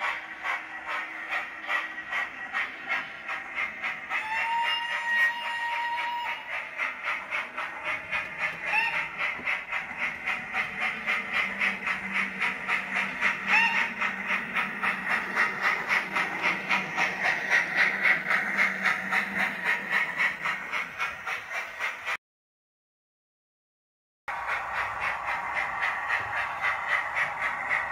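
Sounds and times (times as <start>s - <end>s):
steam locomotive chuffs with hiss: 0.0s - 22.2s, 24.3s - 27.9s.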